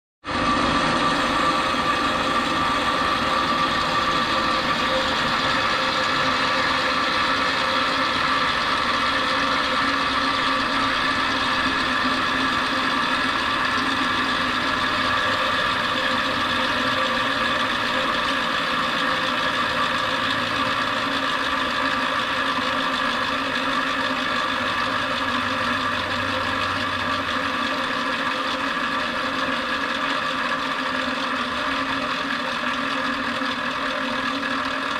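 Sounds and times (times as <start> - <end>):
electric motor humming and whirring: 0.3 - 34.9.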